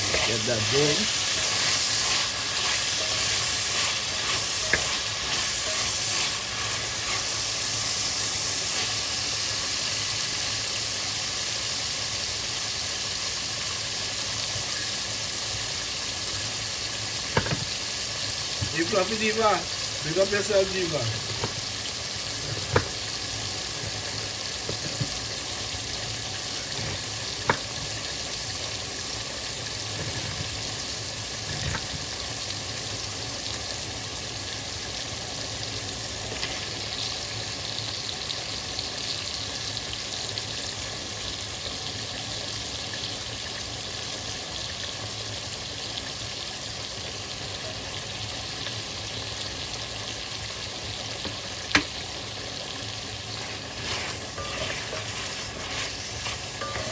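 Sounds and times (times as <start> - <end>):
meat sizzling in a pot: 0.0 - 56.9.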